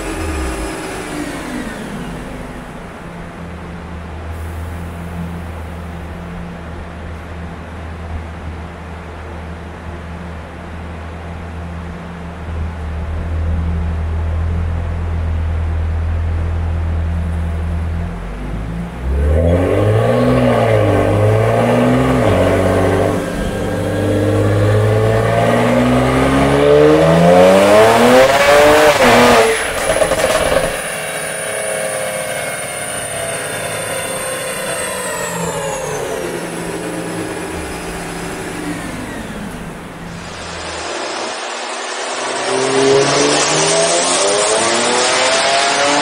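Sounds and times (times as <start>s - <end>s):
car engine revving: 0.0s - 6.8s, 11.5s - 46.0s
dyno rollers whining: 0.0s - 46.0s.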